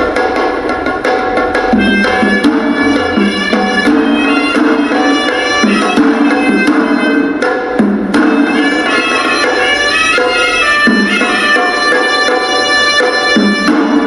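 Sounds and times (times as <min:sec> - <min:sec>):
quick dense drum strokes: 0:00.0 - 0:14.0
reedy pipe melody: 0:01.8 - 0:07.5, 0:08.2 - 0:14.0.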